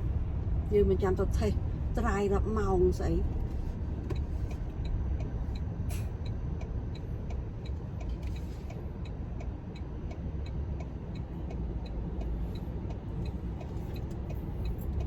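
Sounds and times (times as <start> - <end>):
road and engine rumble: 0.0 - 15.0
turn signal ticking: 0.2 - 15.0.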